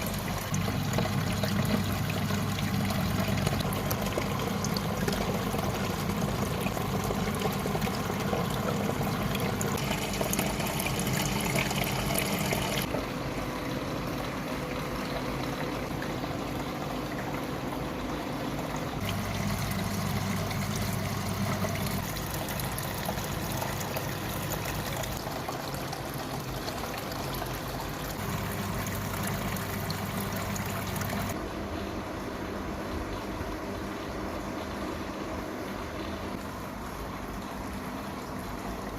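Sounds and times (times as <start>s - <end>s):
water trickling down small waterfall: 0.0s - 13.0s, 14.2s - 31.4s, 33.0s - 38.9s.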